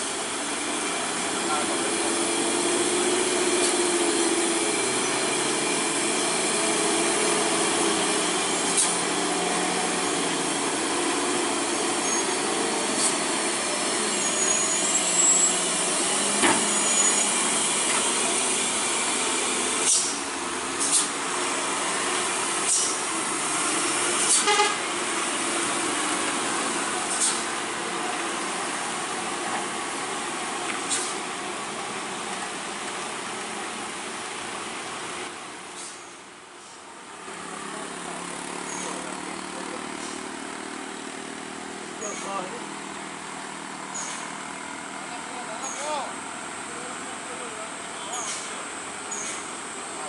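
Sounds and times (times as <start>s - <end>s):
road noise: 0.0s - 50.0s
truck diesel engines under load: 0.0s - 50.0s.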